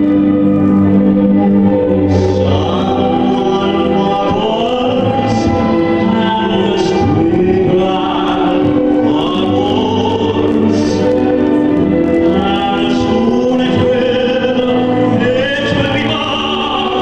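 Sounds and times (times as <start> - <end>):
backing music with sustained chords: 0.0 - 17.0
man singing tenor: 1.3 - 17.0.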